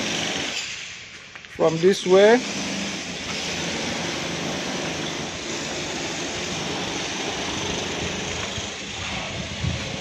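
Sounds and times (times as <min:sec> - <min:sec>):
road-works machinery engine: 0:00.0 - 0:10.0.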